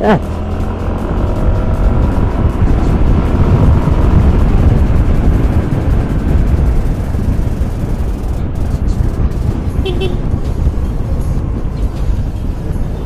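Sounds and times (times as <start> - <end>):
motorcycle engine: 0.0 - 13.0
wind buffeting microphone: 0.1 - 13.0.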